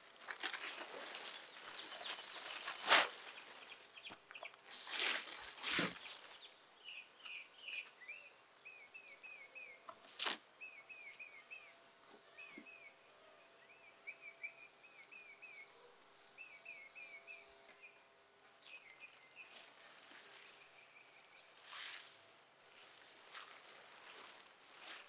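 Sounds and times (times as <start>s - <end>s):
faint bird chirping: 0.8s - 10.0s, 10.6s - 25.0s.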